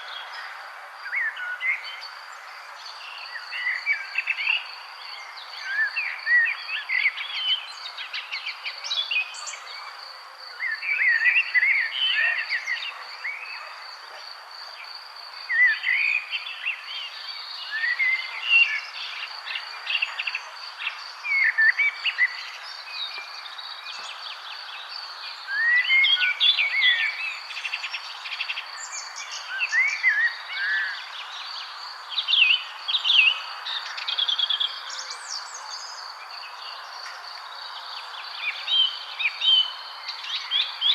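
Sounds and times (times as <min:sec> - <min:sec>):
outdoor background hiss: 0:00.0 - 0:40.9
songbirds singing: 0:00.0 - 0:40.9.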